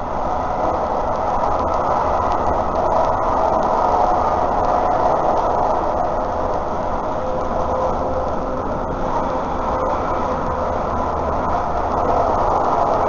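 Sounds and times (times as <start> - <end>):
faint steady whine: 0.0 - 13.0
tram wheels rumbling on rail: 0.0 - 13.0.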